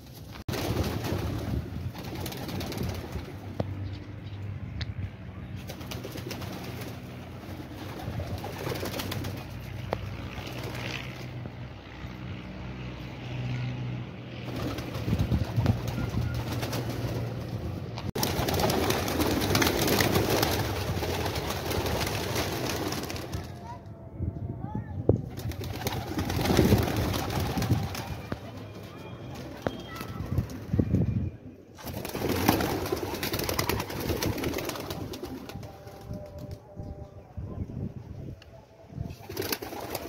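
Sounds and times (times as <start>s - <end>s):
wings flapping: 0.0s - 3.8s, 5.5s - 23.9s, 25.2s - 31.1s, 31.8s - 36.7s, 39.0s - 40.0s.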